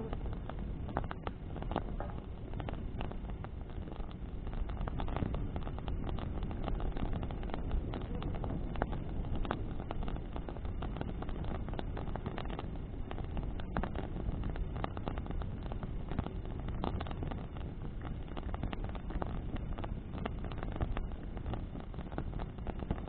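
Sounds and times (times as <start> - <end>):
burning wood crackling and popping: 0.0 - 23.0
rush of flame and wind: 0.0 - 23.0.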